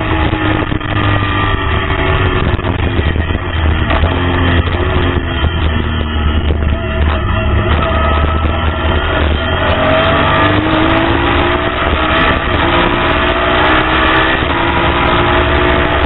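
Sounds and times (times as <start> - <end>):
race car engine accelerating: 0.0 - 16.0
wind and road noise: 0.0 - 16.0.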